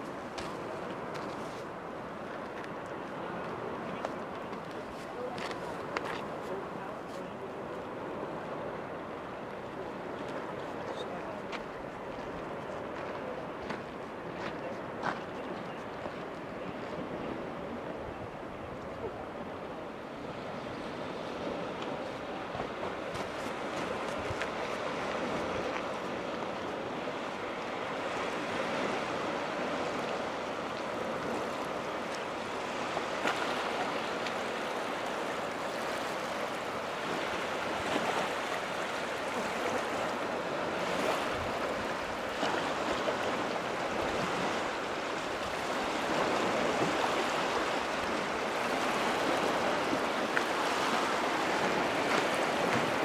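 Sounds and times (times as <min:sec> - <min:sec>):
lake water washing on shore: 0:00.0 - 0:53.0.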